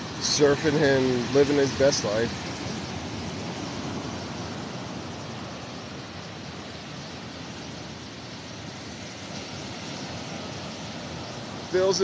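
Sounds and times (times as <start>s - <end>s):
ocean surf washing on sand: 0.0s - 12.0s.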